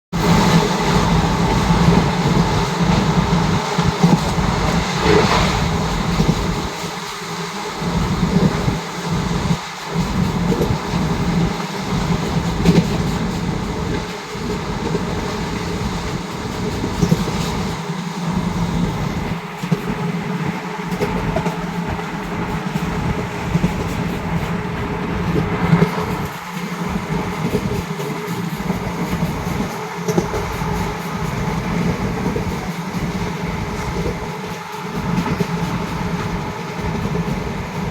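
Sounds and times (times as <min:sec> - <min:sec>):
train low rumble: 0:00.1 - 0:37.9.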